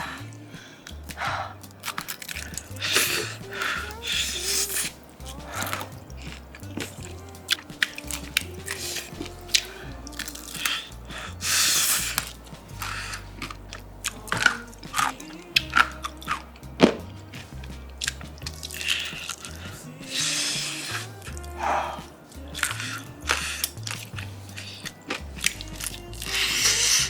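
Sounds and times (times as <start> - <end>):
background music: 0.0 - 27.0
crunchy food being chewed: 0.0 - 27.0.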